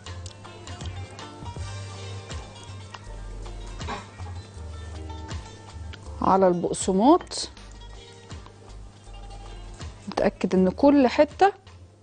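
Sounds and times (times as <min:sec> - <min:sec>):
background music with bass line: 0:00.0 - 0:12.0.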